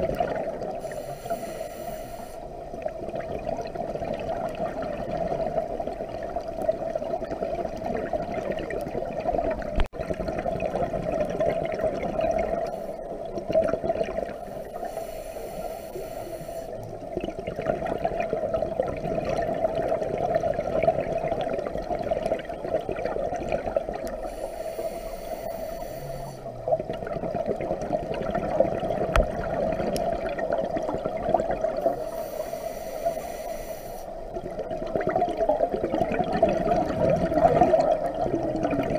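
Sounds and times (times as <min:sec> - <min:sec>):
exhaled bubbles gurgling: 0:00.0 - 0:01.6, 0:02.5 - 0:38.9
muffled rush of water: 0:00.0 - 0:38.9.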